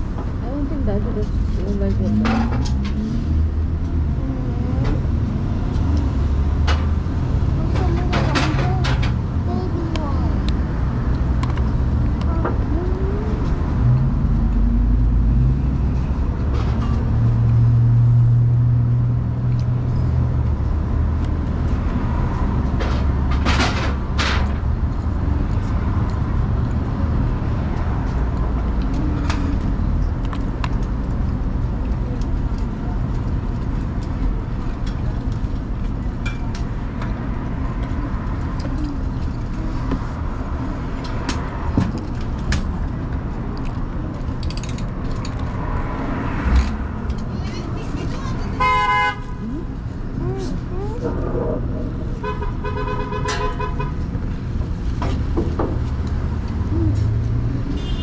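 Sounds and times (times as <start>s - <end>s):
engine hum: 0.0s - 58.0s
road traffic rumble: 0.0s - 58.0s.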